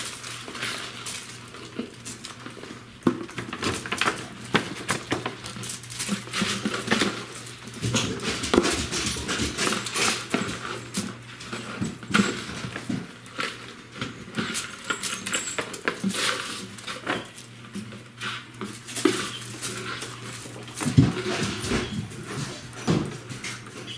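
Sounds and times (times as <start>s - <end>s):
paper bags rustling and crinkling: 0.0s - 23.9s.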